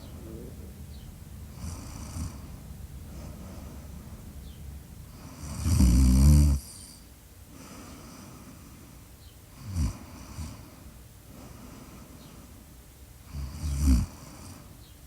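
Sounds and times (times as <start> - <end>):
quiet breathing: 0.0 - 14.9.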